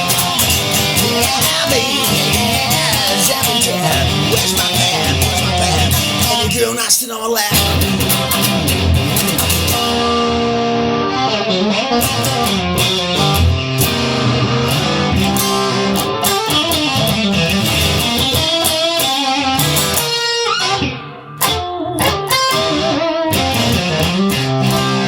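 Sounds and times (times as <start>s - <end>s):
instrumental blues electric guitar: 0.0s - 25.0s.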